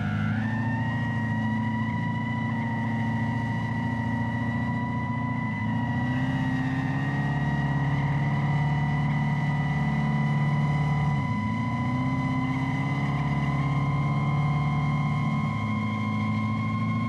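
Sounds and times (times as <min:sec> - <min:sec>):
synthesized car exhaust drone: 0:00.0 - 0:17.0.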